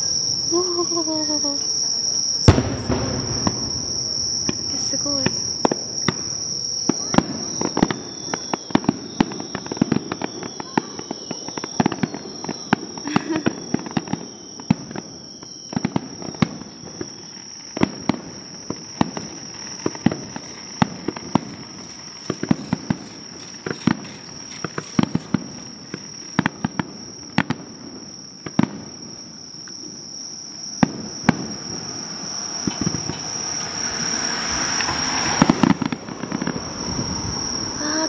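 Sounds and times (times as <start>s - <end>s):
fireworks bursting with bangs: 0.0s - 38.0s
fireworks crackling: 0.0s - 38.0s.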